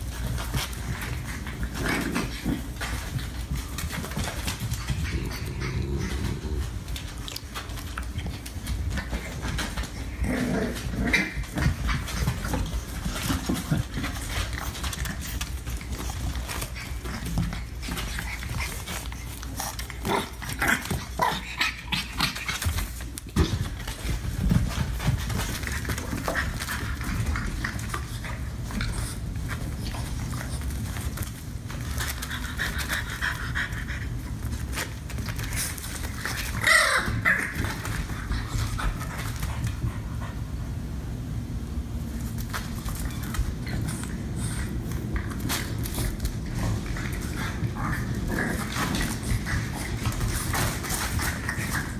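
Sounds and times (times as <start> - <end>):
puppies scuffling: 0.0 - 40.7, 41.8 - 51.9
steady low hum: 0.0 - 51.9.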